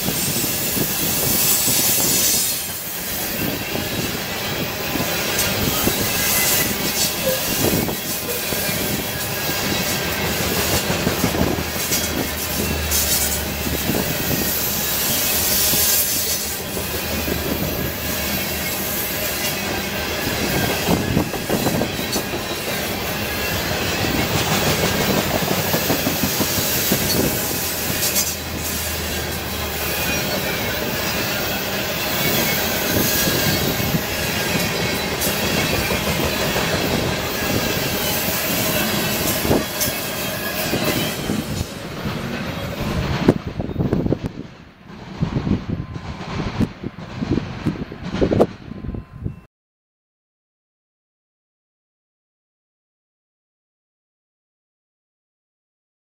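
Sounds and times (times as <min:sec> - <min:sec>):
wheels clacking over rail joints: 0:00.0 - 0:48.8
train wheels rumbling on rail: 0:00.0 - 0:49.5.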